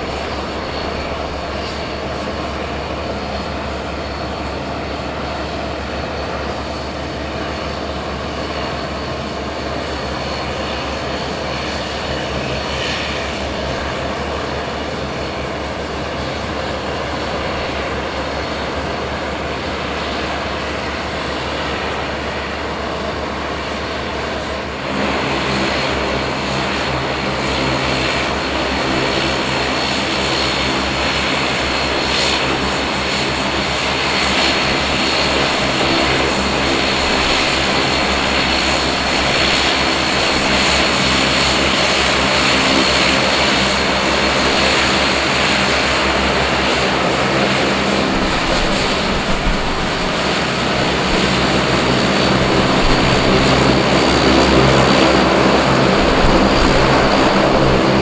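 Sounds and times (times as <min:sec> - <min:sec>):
propeller drone: 0:00.0 - 0:58.0
turbine whine: 0:00.0 - 0:58.0.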